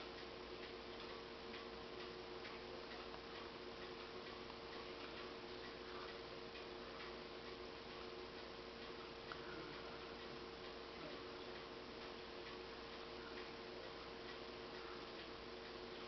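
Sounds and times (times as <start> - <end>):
faint regular ticking: 0.0 - 16.0
steady low hum: 0.0 - 16.0.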